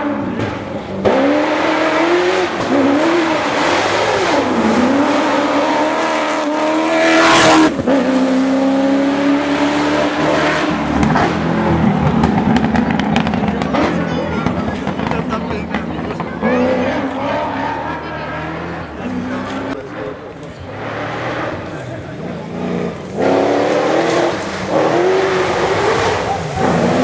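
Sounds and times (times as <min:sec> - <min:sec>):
gravel and tyre noise: 0:00.0 - 0:27.0
rally car engines revving: 0:00.0 - 0:27.0.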